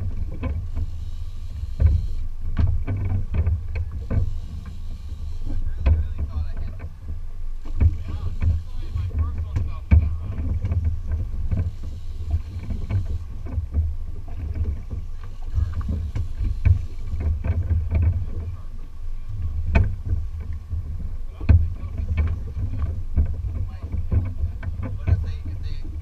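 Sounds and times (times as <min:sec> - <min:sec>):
wind and water rumble: 0:00.0 - 0:26.0.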